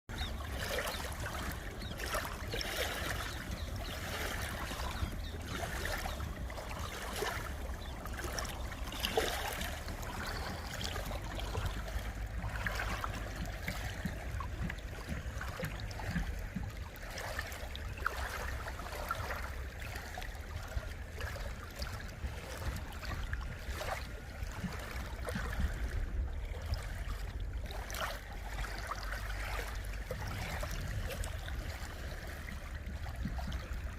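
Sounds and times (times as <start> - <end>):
small waves lapping and splashing: 0.1 - 33.9.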